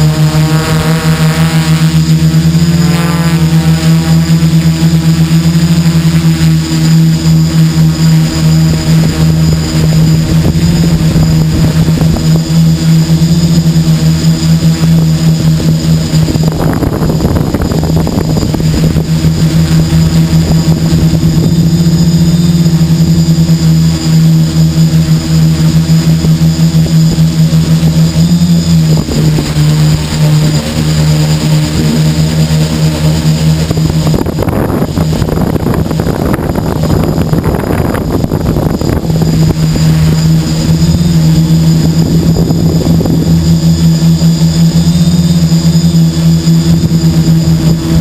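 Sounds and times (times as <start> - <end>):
quadcopter propellers humming: 0.0 - 48.0
rushes of noise: 0.0 - 48.0.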